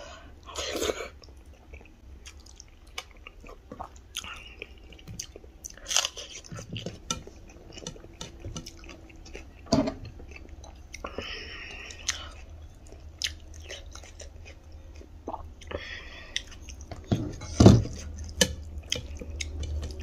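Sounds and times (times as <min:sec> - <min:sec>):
person chewing: 0:00.5 - 0:20.0
eating by hand: 0:00.8 - 0:20.0.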